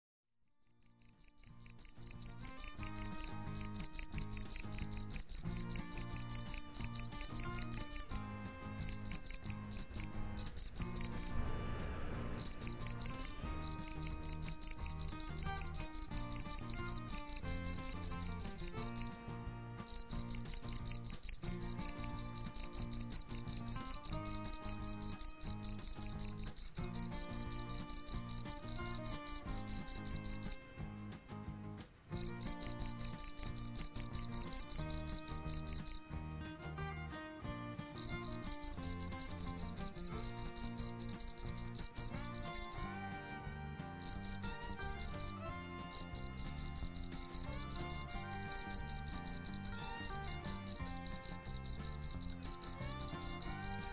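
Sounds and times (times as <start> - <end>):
cricket chirping: 0.4 - 53.9.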